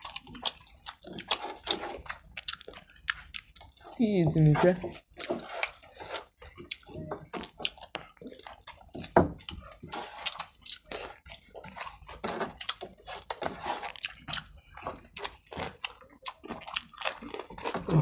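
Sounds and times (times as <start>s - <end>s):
chewing and lip smacks: 0.0s - 18.0s
fingers squishing rice: 0.0s - 18.0s.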